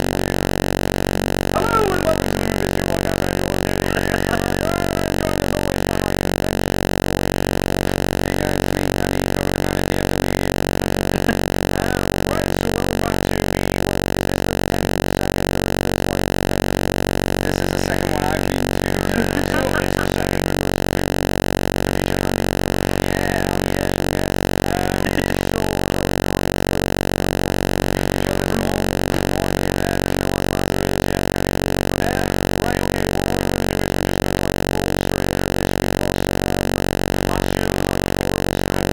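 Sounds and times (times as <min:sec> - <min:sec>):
loud droning buzz: 0:00.0 - 0:38.9.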